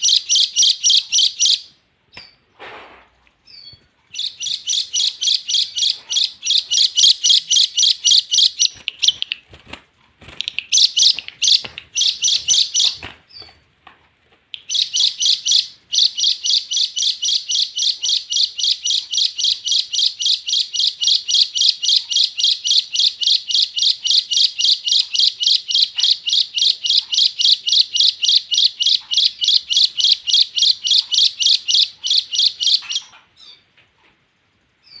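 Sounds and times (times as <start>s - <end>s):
bird chirping rapidly: 0.0s - 2.4s, 3.5s - 9.5s, 10.2s - 13.6s, 14.5s - 33.7s.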